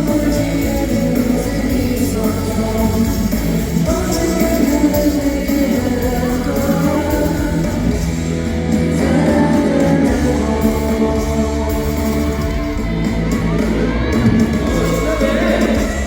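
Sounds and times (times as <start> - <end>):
man singing: 0.0 - 13.1, 14.6 - 16.0
electric guitar: 0.0 - 16.0
live pop-rock band: 0.0 - 16.0.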